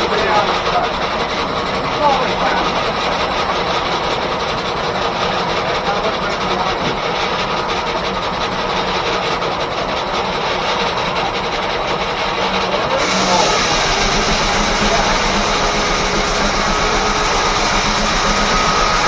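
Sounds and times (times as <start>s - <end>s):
steam engine running sawmill: 0.0s - 19.0s.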